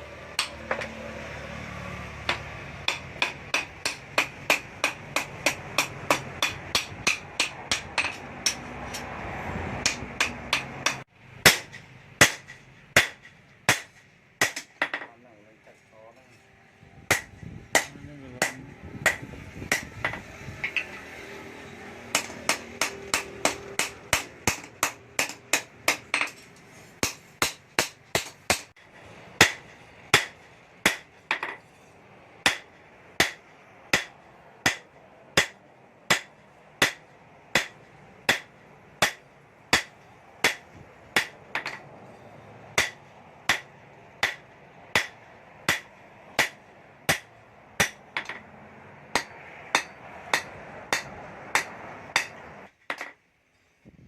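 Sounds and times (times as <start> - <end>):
hammer striking steel on anvil: 0.4 - 1.0, 2.2 - 9.2, 9.8 - 15.1, 17.1 - 21.0, 22.1 - 28.8, 29.4 - 48.5, 49.1 - 53.2.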